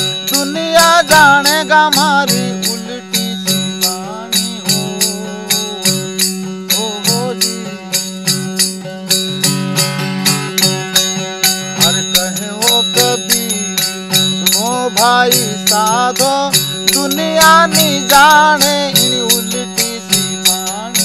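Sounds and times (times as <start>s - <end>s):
kartal jingling beat: 0.0s - 21.0s.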